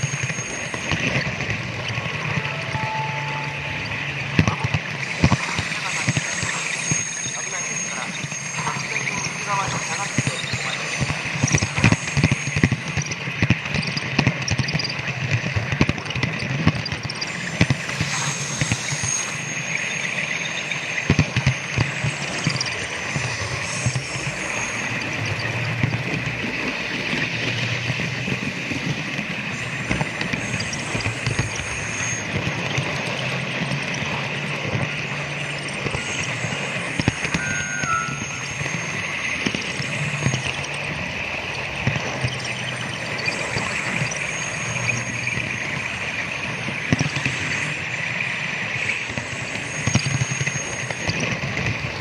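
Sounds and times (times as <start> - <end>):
electric train motor hum: 0.0 - 52.0.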